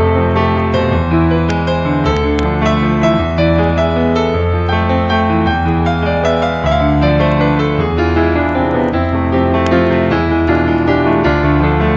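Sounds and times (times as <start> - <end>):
slow gentle piano music: 0.0 - 11.9.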